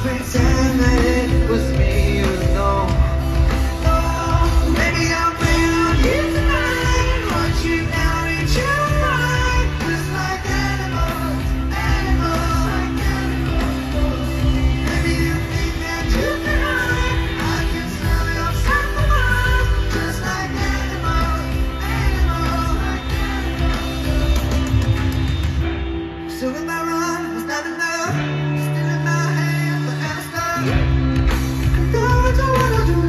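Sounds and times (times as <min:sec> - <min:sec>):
male singer: 0:00.0 - 0:25.0, 0:26.2 - 0:33.0
bass guitar: 0:00.0 - 0:33.0
drums: 0:00.0 - 0:33.0
electric guitar: 0:00.0 - 0:33.0.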